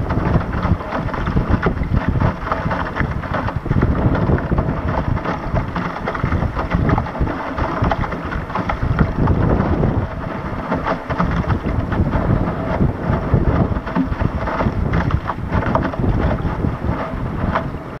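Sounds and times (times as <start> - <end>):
water slapping against boat hull: 0.0 - 18.0
wind buffeting microphone: 0.0 - 18.0.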